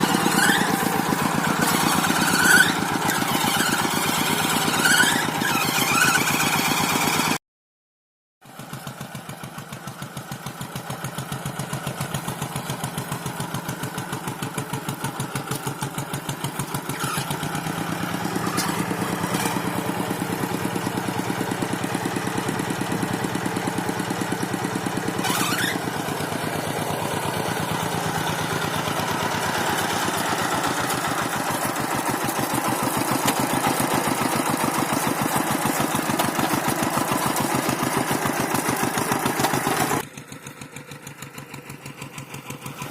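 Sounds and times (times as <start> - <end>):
tractor engine running: 0.0 - 7.4, 8.4 - 42.9.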